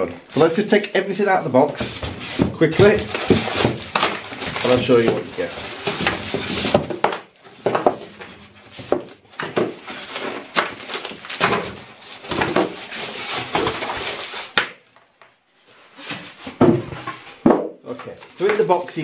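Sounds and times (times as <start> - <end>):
packaging rustling and scraping: 0.0 - 14.6, 15.6 - 19.0.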